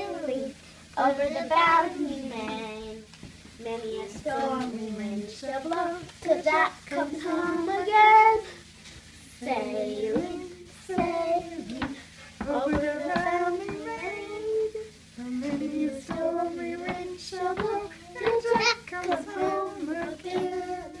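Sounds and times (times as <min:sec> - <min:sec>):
children singing: 0:00.0 - 0:03.0, 0:03.7 - 0:08.4, 0:09.4 - 0:21.0.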